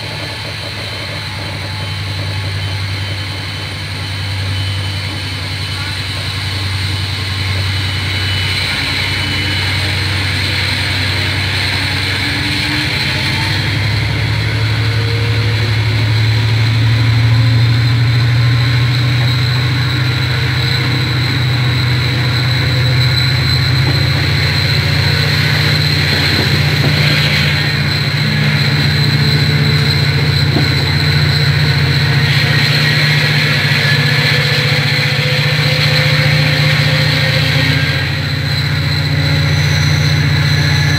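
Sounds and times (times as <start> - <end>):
steady high whine: 0.0 - 40.9
train diesel engine: 0.0 - 40.9.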